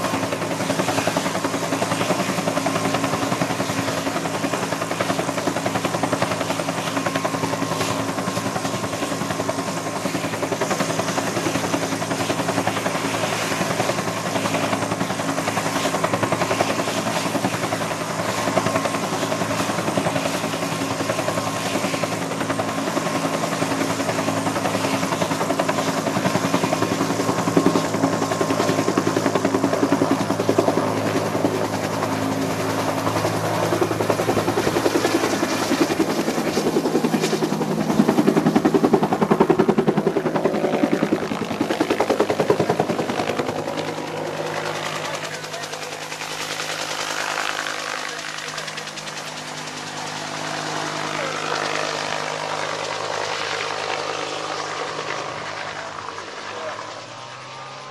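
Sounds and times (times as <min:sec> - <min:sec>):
helicopter rotor beating: 0:00.0 - 0:57.9
helicopter turbine whining: 0:00.0 - 0:57.9.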